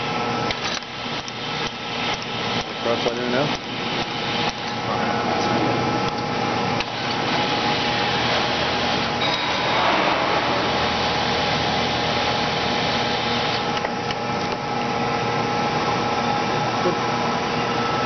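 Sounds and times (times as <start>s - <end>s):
lathe gear train whirring: 0.0s - 18.0s.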